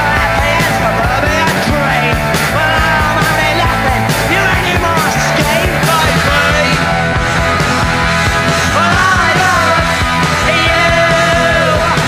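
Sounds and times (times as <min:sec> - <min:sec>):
person singing: 0:00.0 - 0:07.1, 0:08.4 - 0:12.0
drums: 0:00.0 - 0:12.0
electric guitars: 0:00.0 - 0:12.0.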